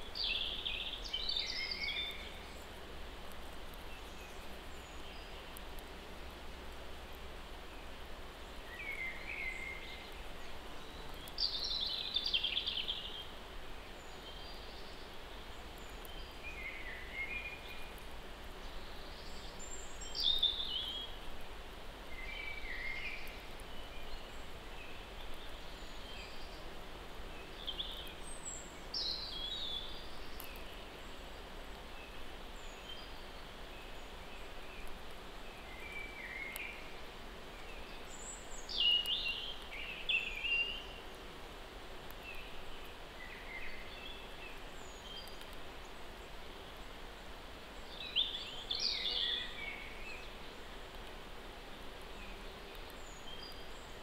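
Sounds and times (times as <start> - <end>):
songbirds singing: 0.0 - 54.0
steady background hiss: 0.0 - 54.0.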